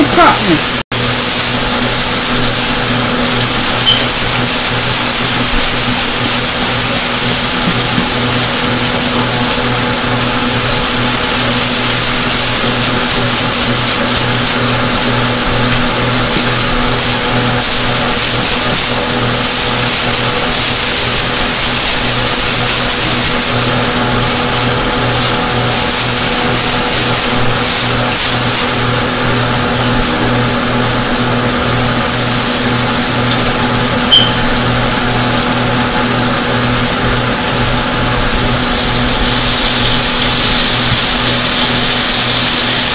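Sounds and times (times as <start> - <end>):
chicken sizzling in pan: 0.0 - 42.9
steady low hum: 0.0 - 42.9.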